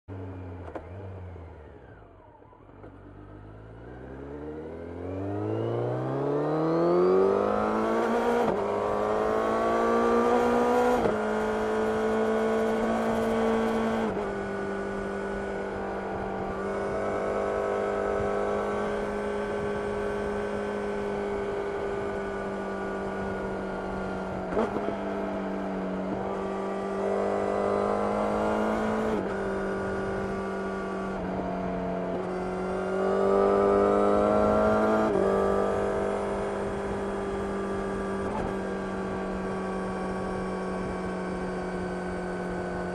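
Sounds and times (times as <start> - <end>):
motorcycle engine revving: 3.0 - 42.9.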